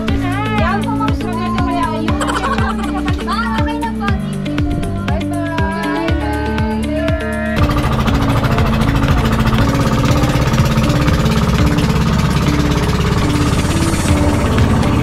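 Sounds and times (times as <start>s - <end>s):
boat engine clattering: 0.0s - 6.8s, 7.6s - 15.0s.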